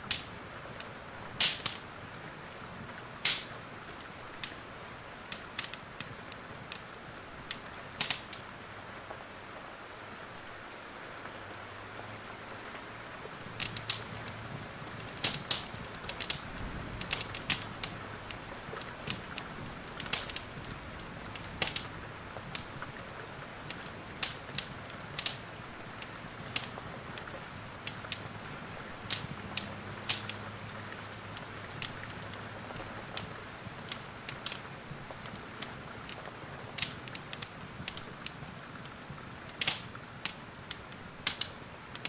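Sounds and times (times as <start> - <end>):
wood fire crackling: 0.0 - 9.6, 12.8 - 42.0
rain hiss: 0.0 - 42.0.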